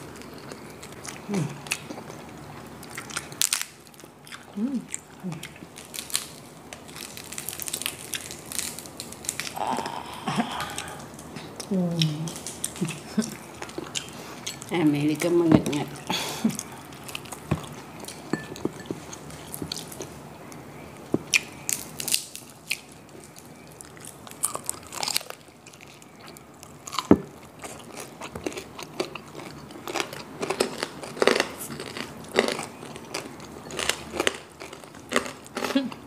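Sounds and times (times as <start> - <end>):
crunching and chewing crispy food: 0.0 - 36.0.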